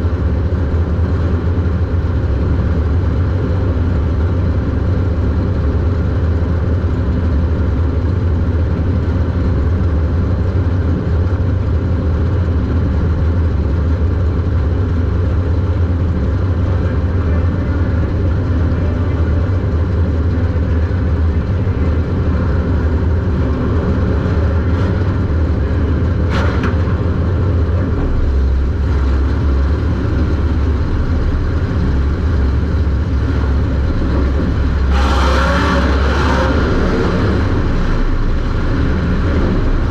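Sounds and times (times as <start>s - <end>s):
race car engine droning: 0.0s - 39.9s.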